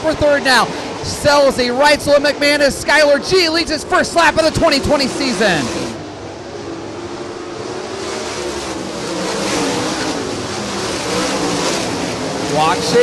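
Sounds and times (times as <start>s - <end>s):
racing car engines at full throttle: 0.0s - 13.0s.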